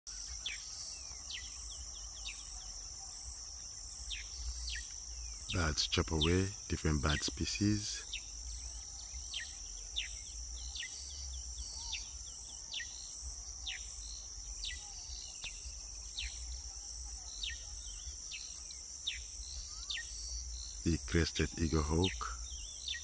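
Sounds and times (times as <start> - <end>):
crickets chirping: 0.1 - 23.0.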